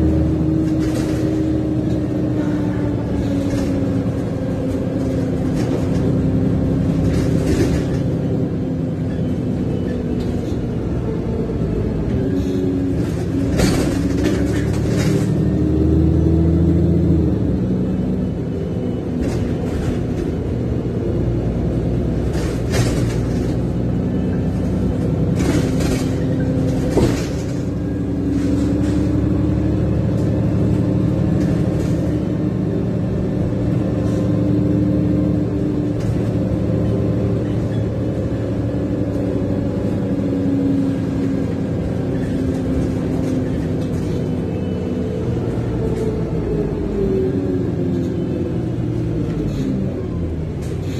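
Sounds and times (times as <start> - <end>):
bus engine and road drone: 0.0 - 50.9.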